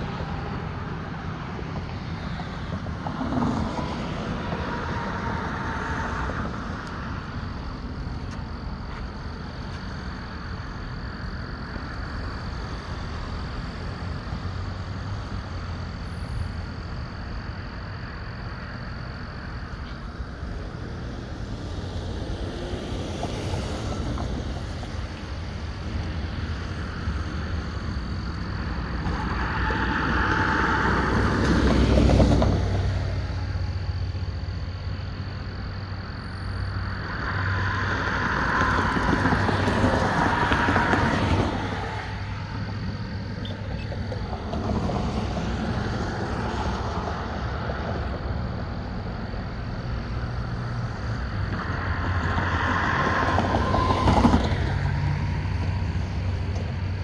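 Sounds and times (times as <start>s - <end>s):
low traffic rumble: 0.0s - 57.0s
vehicles passing on wet road: 0.0s - 57.0s.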